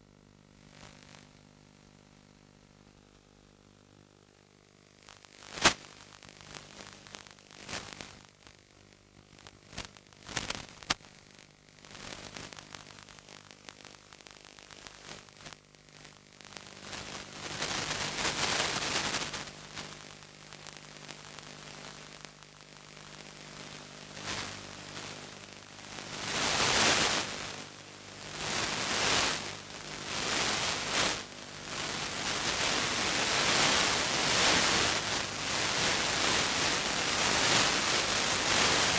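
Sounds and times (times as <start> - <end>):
faint steady hum: 0.0 - 38.9
video receiver static hiss: 0.0 - 38.9
sharp crackles: 0.6 - 1.4, 2.0 - 38.9.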